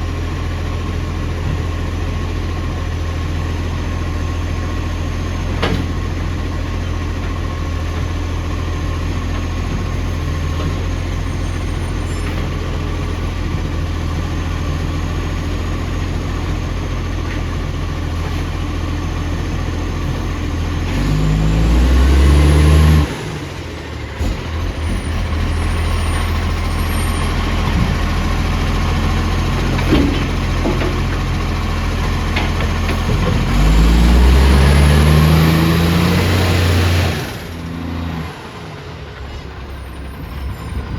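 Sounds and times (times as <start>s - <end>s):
heavy vehicle engine idling: 0.0s - 40.9s.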